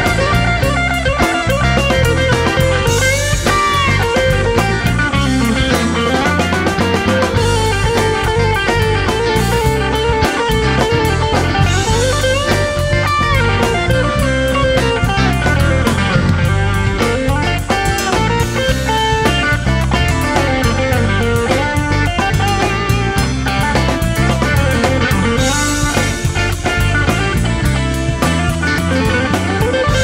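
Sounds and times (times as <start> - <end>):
bass guitar: 0.0 - 30.0
drums: 0.0 - 30.0
electric guitar lead with bent notes: 0.0 - 30.0.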